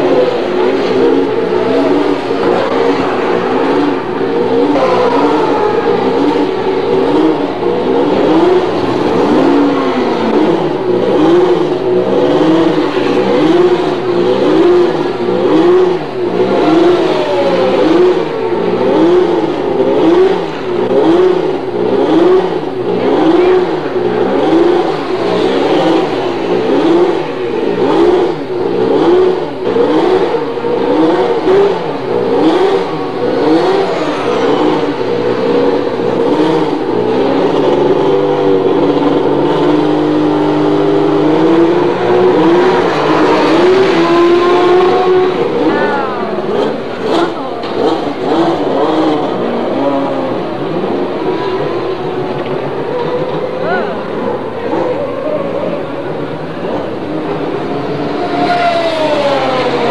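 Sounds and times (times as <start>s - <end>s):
racing car engines running: 0.0s - 59.9s.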